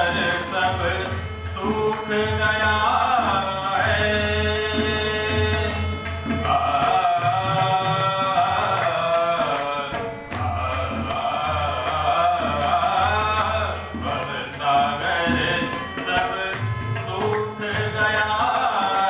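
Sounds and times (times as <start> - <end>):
harmonium reed notes: 0.0 - 19.0
person singing devotional song: 0.0 - 19.0
tabla beat: 0.0 - 19.0.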